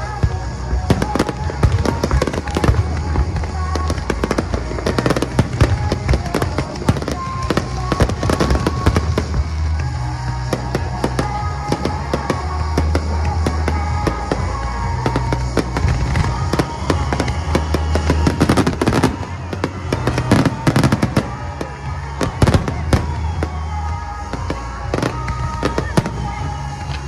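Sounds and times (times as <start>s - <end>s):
background music: 0.0s - 27.0s
fireworks bursting and crackling: 0.0s - 27.0s.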